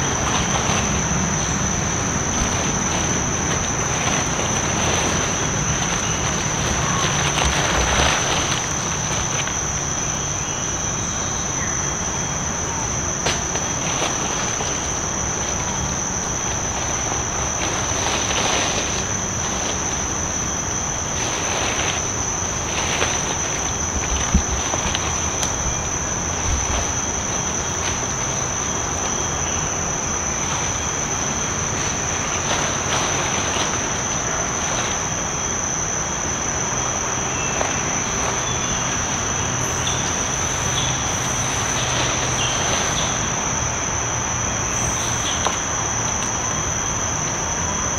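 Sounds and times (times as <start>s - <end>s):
background hiss: 0.0s - 47.9s
insects droning: 0.0s - 47.9s.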